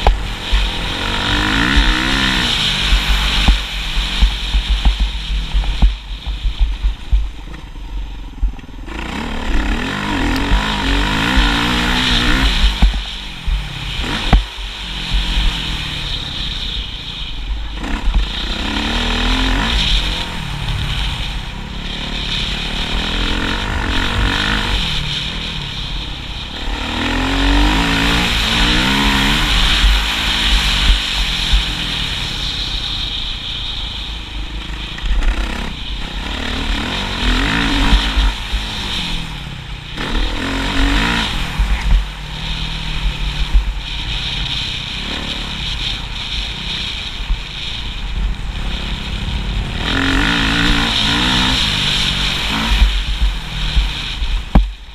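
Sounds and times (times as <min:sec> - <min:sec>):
heavy low rumble: 0:00.0 - 0:54.9
motorcycle engine revving: 0:00.0 - 0:54.9.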